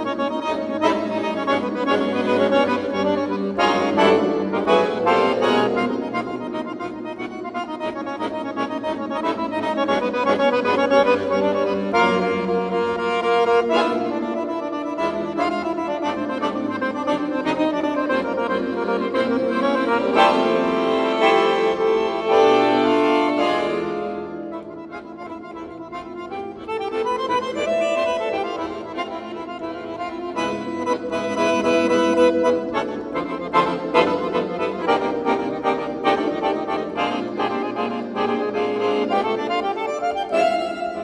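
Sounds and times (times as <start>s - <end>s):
button accordion melody: 0.0s - 41.0s.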